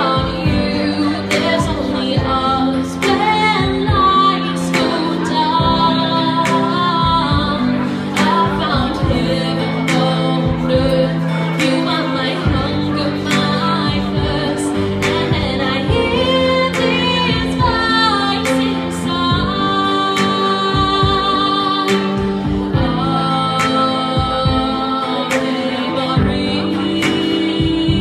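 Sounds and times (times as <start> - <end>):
backing music with soft beat: 0.0 - 28.0
woman singing slow song: 0.0 - 28.0.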